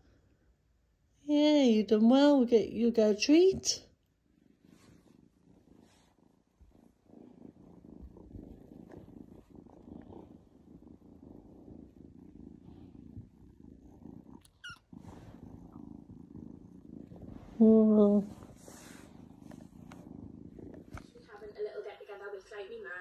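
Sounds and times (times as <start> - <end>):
kitten purring: 0.0 - 23.0.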